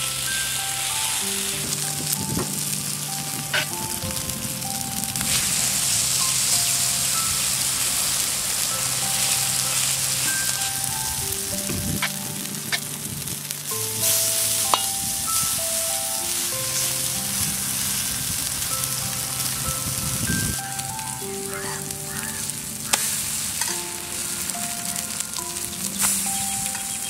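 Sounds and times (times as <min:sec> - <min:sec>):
omelette sizzling in a pan: 0:00.0 - 0:27.0.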